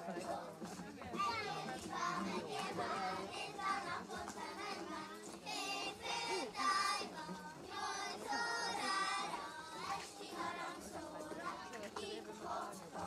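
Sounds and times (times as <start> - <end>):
children singing a folk song: 0.0 - 13.0.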